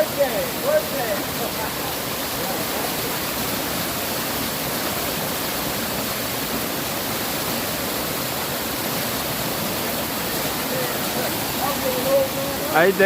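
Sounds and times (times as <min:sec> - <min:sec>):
waterfall pouring onto rocks: 0:00.0 - 0:13.0.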